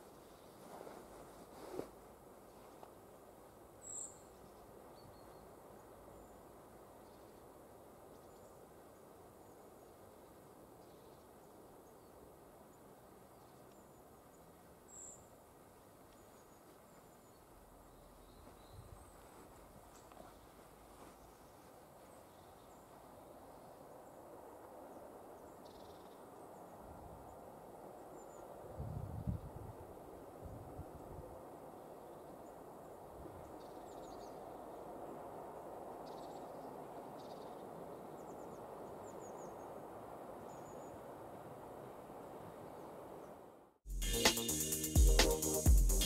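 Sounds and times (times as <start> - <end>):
faint outdoor background noise: 0.0 - 46.0.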